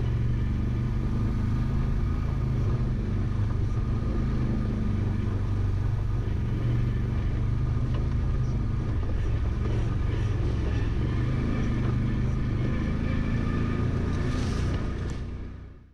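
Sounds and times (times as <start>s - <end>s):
vehicle engine running: 0.0s - 15.9s.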